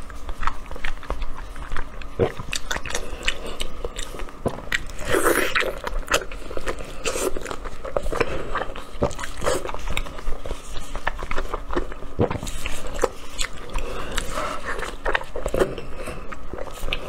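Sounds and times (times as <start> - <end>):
wet chewing and slurping: 0.0 - 17.0.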